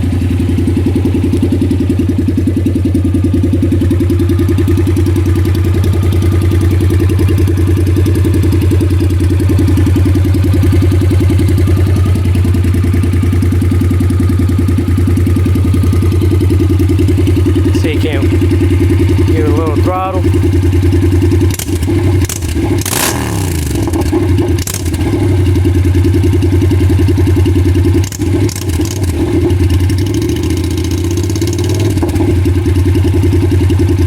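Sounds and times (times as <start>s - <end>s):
motorcycle engine idling loudly: 0.0s - 34.0s.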